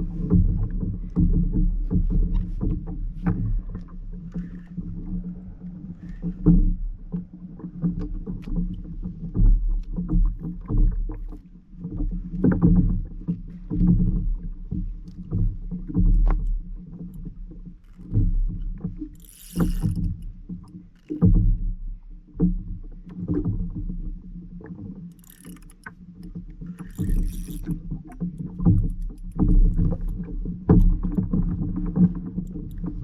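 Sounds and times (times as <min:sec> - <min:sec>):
water slapping against kayak hull: 0:00.0 - 0:33.0.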